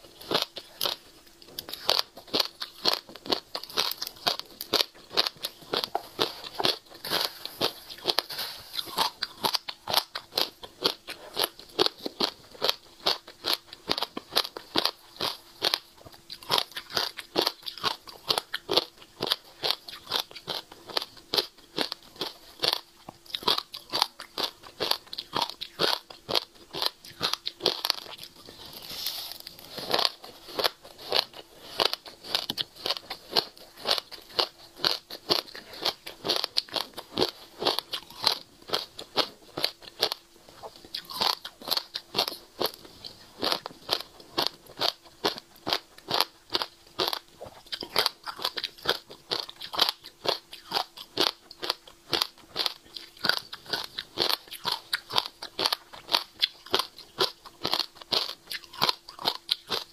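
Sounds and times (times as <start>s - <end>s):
seeds crunching while chewing: 0.0s - 59.9s.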